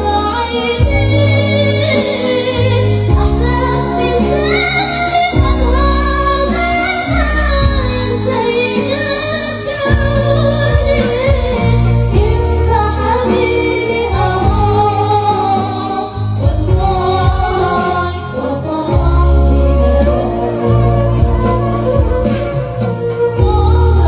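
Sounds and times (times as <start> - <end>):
instrumental accompaniment: 0.0 - 24.0
woman singing slow melody: 0.0 - 24.0.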